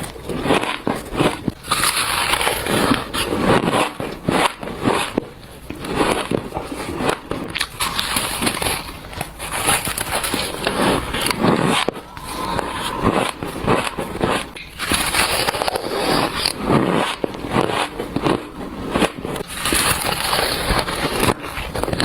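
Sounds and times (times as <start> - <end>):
crunchy chewing of ice: 0.0 - 22.0.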